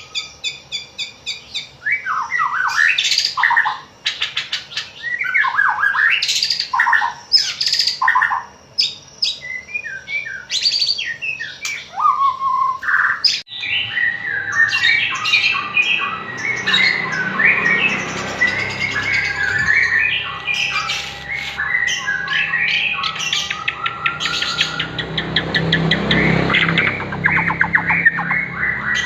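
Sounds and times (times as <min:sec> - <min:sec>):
songbird singing whistled phrases: 0:00.0 - 0:25.5, 0:26.1 - 0:29.0.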